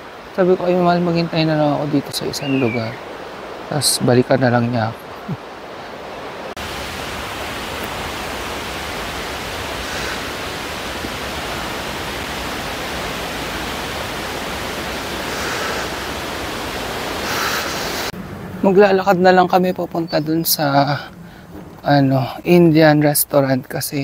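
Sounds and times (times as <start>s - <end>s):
running water rushing: 0.0s - 23.8s.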